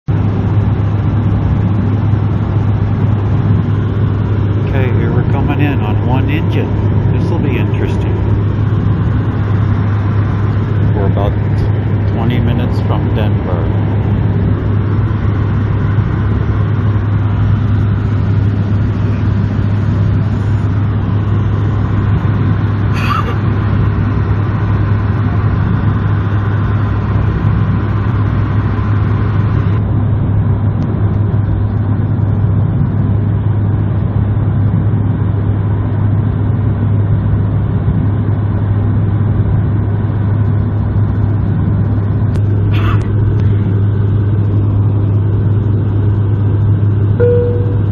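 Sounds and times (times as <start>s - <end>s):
propeller drone: 0.0s - 47.9s
cabin airflow noise: 0.1s - 34.4s, 35.1s - 47.9s.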